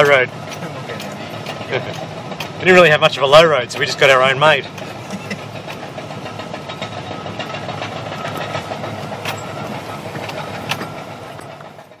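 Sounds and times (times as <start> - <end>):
sharp knocks and rattles: 0.0 - 12.0
truck engine and road rumble: 0.0 - 12.0.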